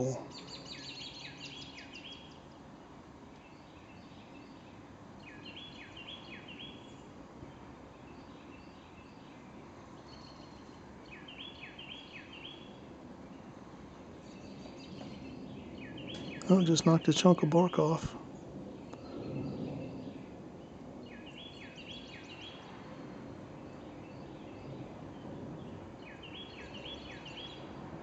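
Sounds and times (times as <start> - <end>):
outdoor background hiss: 0.0 - 28.0.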